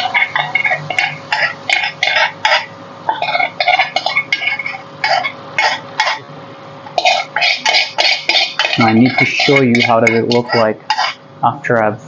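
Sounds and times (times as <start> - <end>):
spoon stirring and scraping a pan: 0.0 - 6.2, 6.9 - 11.3
faint steady hum: 0.0 - 12.0.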